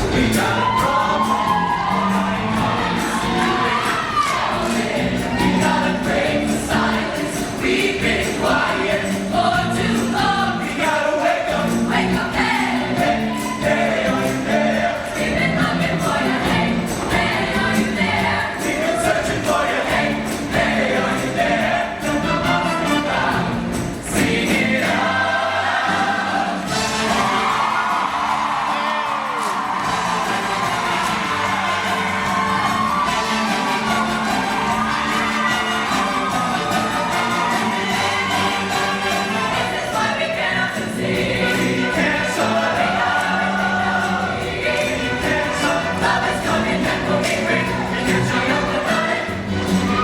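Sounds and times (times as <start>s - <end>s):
choir singing: 0.0s - 50.0s
live instrumental accompaniment: 0.0s - 50.0s.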